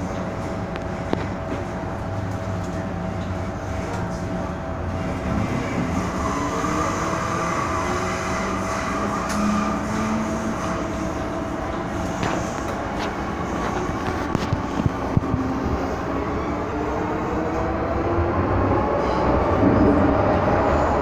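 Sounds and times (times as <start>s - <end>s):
train wheels rumbling on rails: 0.0s - 21.0s
train whine: 0.0s - 21.0s.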